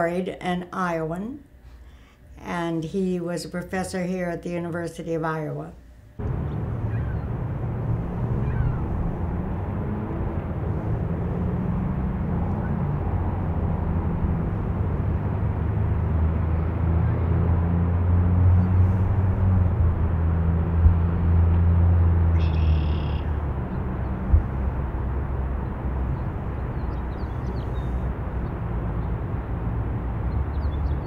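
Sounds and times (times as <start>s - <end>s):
vehicle engine drone: 6.1s - 31.0s.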